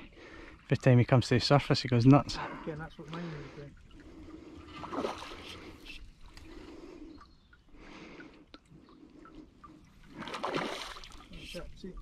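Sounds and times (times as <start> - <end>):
water splashing around boat: 2.0 - 12.0.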